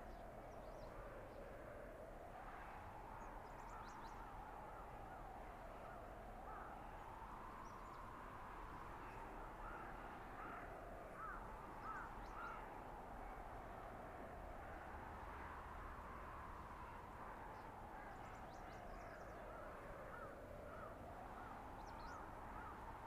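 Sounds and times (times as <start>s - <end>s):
howling wind: 0.0s - 23.0s.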